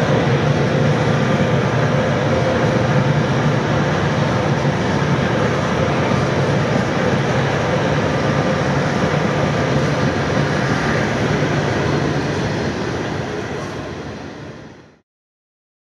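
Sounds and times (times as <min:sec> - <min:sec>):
train wheels on rails: 0:00.0 - 0:14.8.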